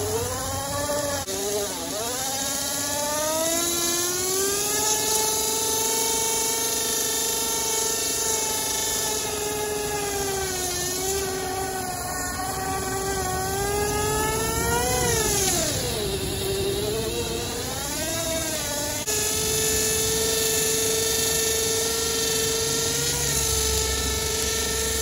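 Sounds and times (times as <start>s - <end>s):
electric motor whining: 0.0s - 25.0s.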